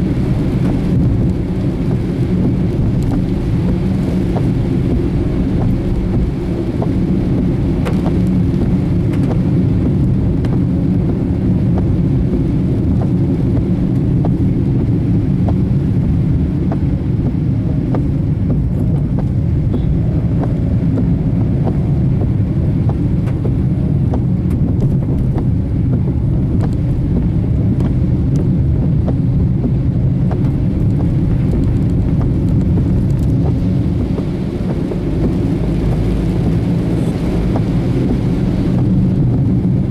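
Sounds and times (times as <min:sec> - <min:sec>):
vehicle road and engine noise: 0:00.0 - 0:39.9.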